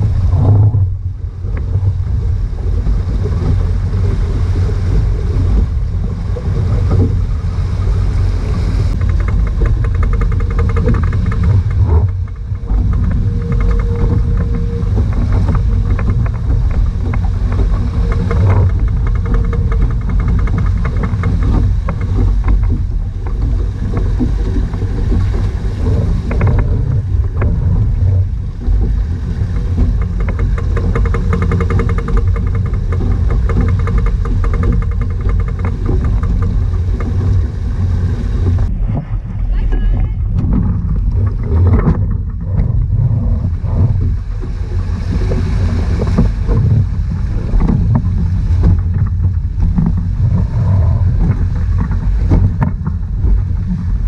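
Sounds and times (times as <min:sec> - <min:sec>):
water rushing past hulls: 0:00.0 - 0:54.0
wind rumbling on microphone: 0:00.0 - 0:54.0.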